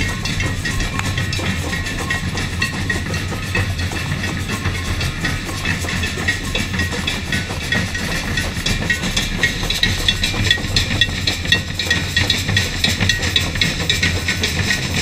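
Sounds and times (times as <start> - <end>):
samba percussion band: 0.0 - 15.0.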